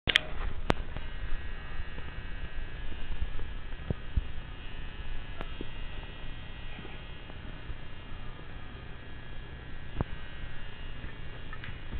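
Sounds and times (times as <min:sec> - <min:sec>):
faint high whine: 0:00.1 - 0:11.9
low electrical hum: 0:00.1 - 0:11.9.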